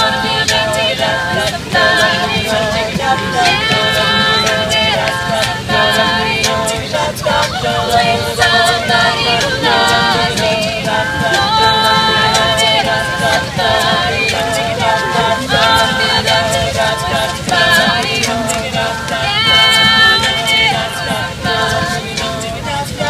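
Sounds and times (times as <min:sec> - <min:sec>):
a cappella group singing in harmony: 0:00.0 - 0:23.0.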